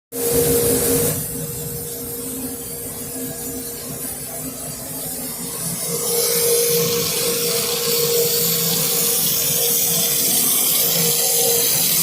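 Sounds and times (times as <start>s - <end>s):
grinding machine humming: 0.2s - 12.0s
loud hiss: 0.2s - 12.0s.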